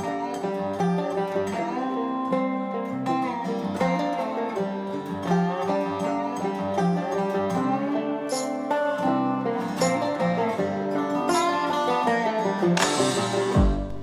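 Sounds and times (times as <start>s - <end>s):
plucked acoustic strings tune: 0.0s - 14.0s.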